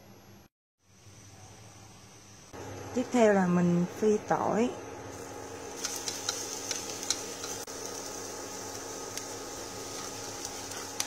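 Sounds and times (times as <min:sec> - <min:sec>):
garlic sizzling in hot oil: 0:00.8 - 0:11.0.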